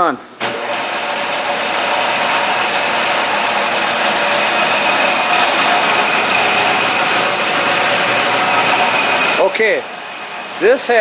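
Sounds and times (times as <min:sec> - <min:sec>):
bandsaw whirring: 0:00.4 - 0:11.0.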